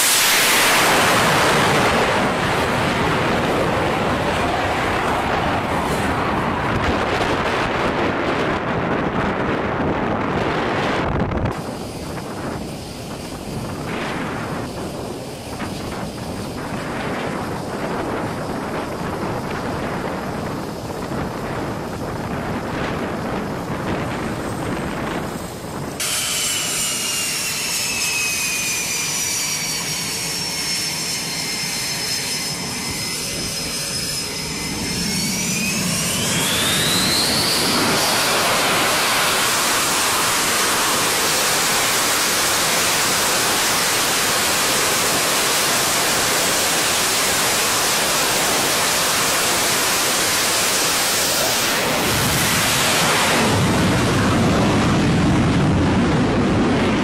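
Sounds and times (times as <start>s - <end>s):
jet engines whining and roaring: 0.0s - 57.0s.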